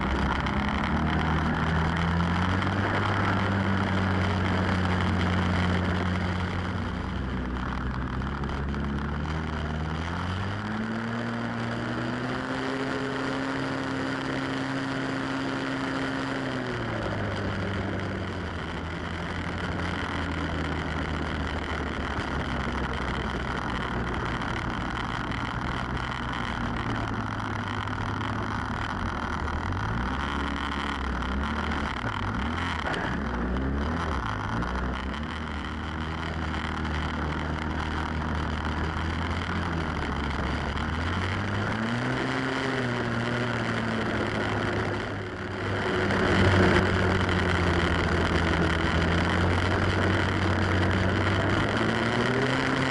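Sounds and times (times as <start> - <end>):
snowmobile engine: 0.0 - 52.9.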